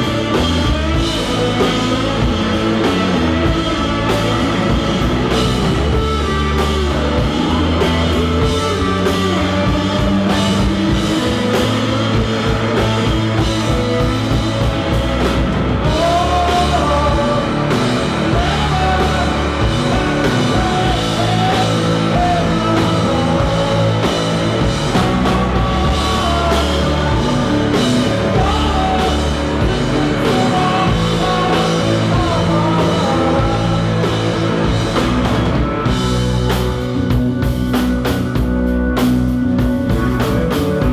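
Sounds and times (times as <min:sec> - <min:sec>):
man singing: 0:00.0 - 0:05.4, 0:06.0 - 0:34.8
drum kit: 0:00.0 - 0:40.9
electric guitar: 0:00.0 - 0:40.9.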